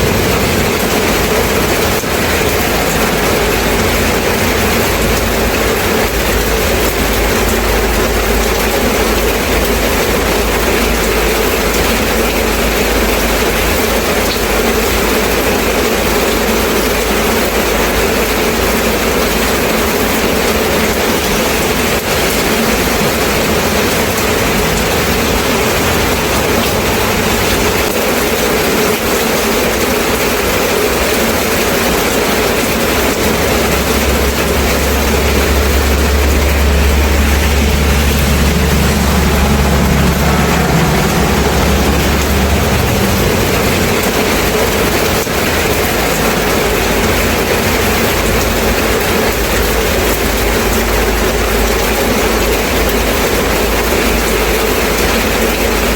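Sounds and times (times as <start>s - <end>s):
low rumble: 0.0s - 14.2s, 18.6s - 29.0s, 32.0s - 52.1s
steady rain: 0.0s - 55.9s.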